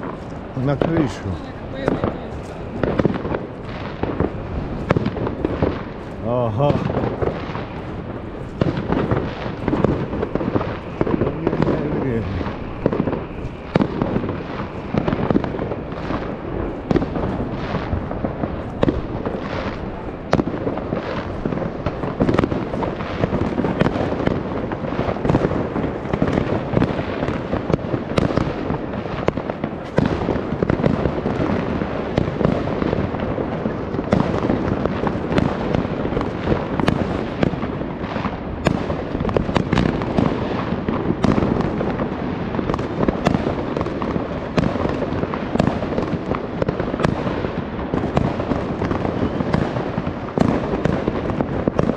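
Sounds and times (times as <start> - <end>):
fireworks and firecrackers banging: 0.0 - 51.9.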